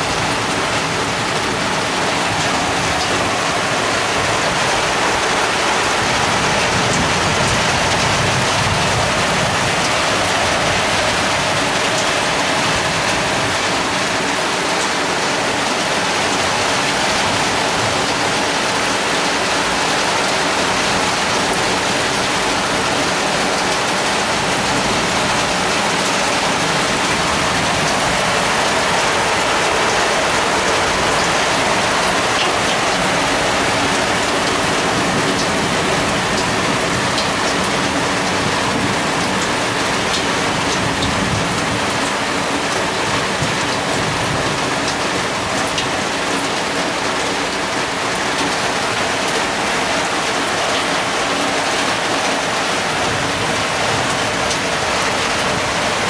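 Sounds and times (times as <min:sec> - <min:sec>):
heavy rain pouring: 0:00.0 - 0:56.0
water dripping off roof: 0:00.0 - 0:56.0.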